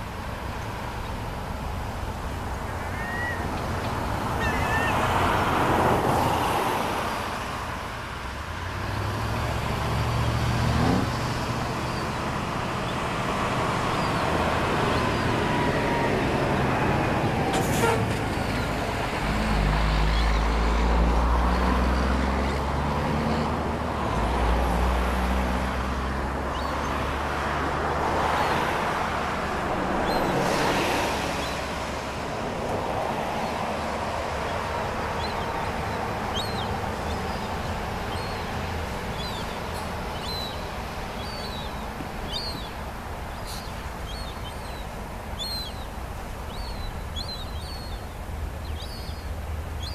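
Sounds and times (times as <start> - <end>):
city traffic: 0.0 - 49.9
heavy vehicle engines humming: 0.0 - 49.9.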